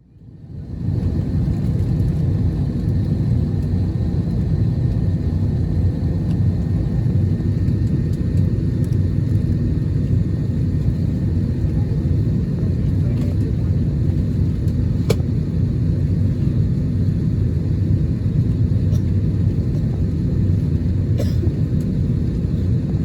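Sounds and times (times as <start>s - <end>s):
aircraft cabin low rumble: 0.0s - 23.0s.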